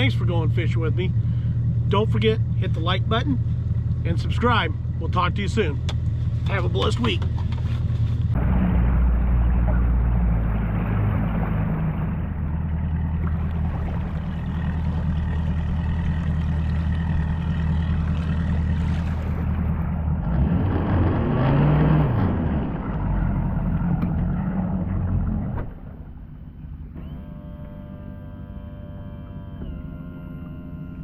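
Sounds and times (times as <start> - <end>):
engine running steadily: 0.0 - 31.0.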